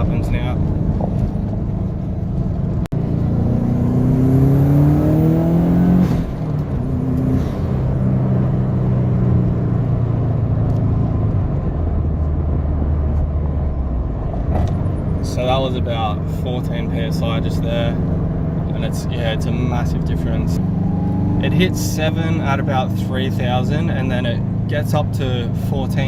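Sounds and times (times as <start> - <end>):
turbocharged engine accelerating: 0.0 - 26.0.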